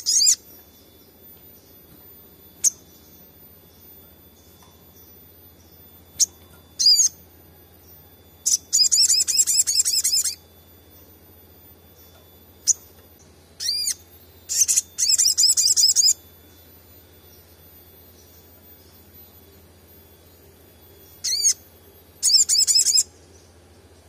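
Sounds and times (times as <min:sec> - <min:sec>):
bird chips and twittering trill: 0:00.0 - 0:24.0.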